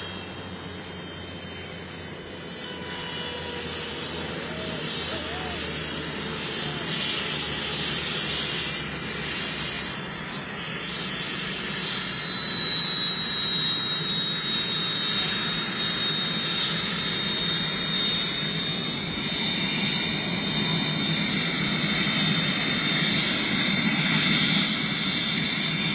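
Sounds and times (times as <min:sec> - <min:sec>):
helicopter turbine whine: 0:00.0 - 0:25.9.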